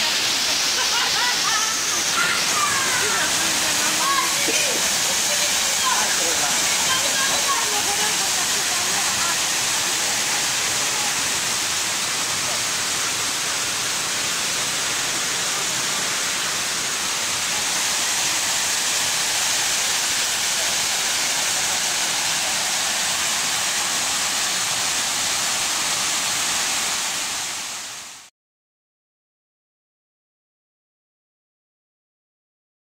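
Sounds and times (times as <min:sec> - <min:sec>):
waterfall rushing: 0:00.0 - 0:28.3.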